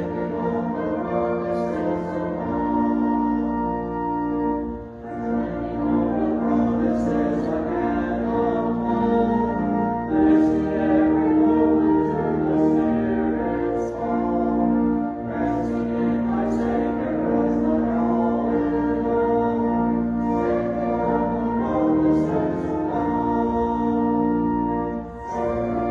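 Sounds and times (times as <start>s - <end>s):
church choir singing: 0.0s - 25.9s
organ or piano accompaniment: 0.0s - 25.9s.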